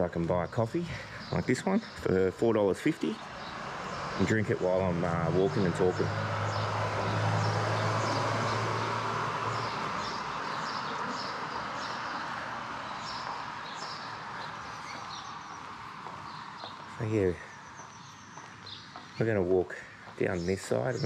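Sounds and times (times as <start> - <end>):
birds chirping: 0.0 - 21.0
vehicle engine hum and tyre noise: 2.9 - 21.0.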